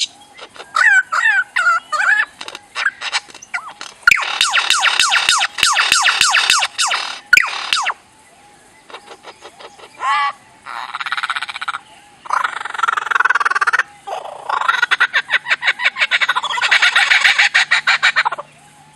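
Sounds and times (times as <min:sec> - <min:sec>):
animal chirps and rattling calls: 0:00.0 - 0:08.0, 0:08.8 - 0:18.8.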